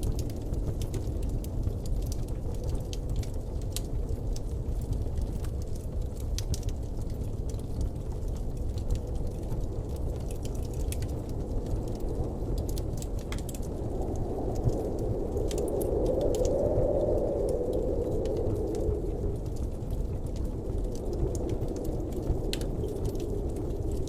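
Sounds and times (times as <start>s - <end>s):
blizzard wind rushing: 0.0s - 24.0s
light ticks and crackles: 0.0s - 24.0s.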